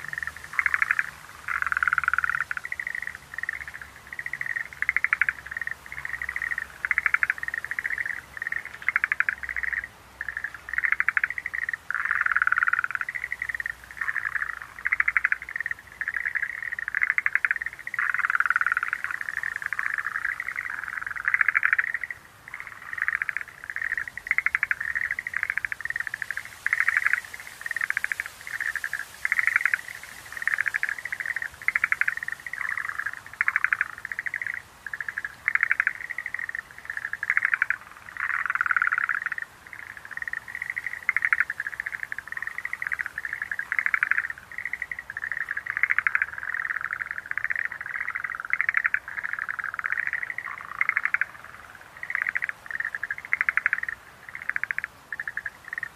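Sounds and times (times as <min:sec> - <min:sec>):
frogs calling in chorus: 0:00.0 - 0:55.9.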